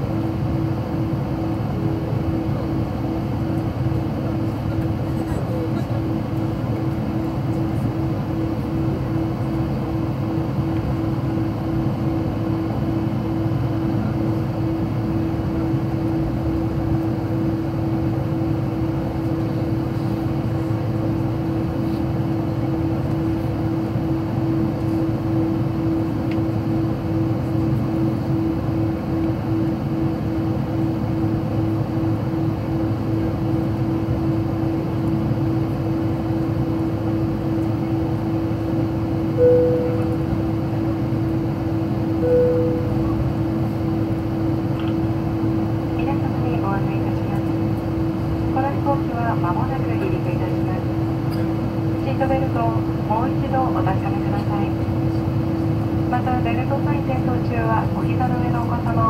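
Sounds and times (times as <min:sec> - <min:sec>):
jet engine and airflow drone: 0:00.0 - 0:59.0.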